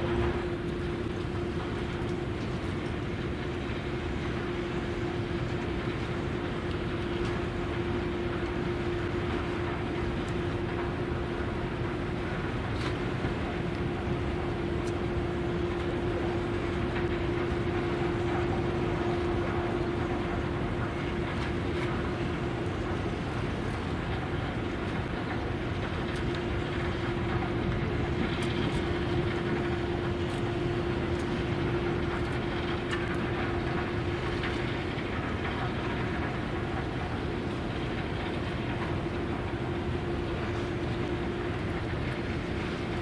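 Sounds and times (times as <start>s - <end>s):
industrial machinery rumbling: 0.0s - 43.0s.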